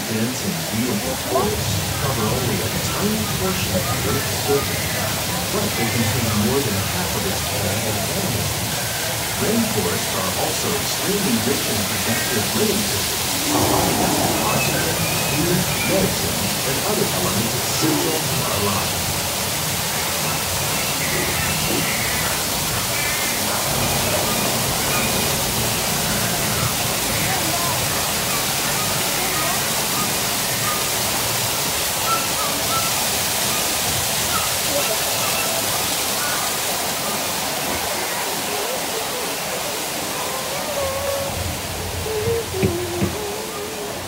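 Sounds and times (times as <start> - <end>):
falling water rushing: 0.0 - 44.0.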